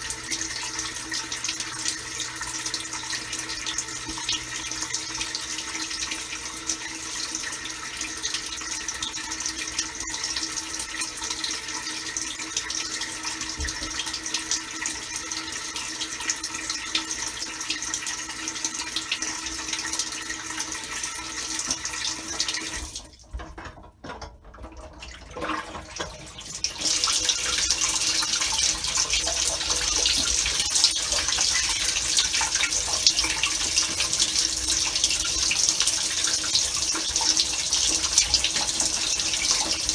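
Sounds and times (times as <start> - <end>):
dishwasher pump hum: 0.0 - 39.9
water spraying inside dishwasher: 0.0 - 39.9.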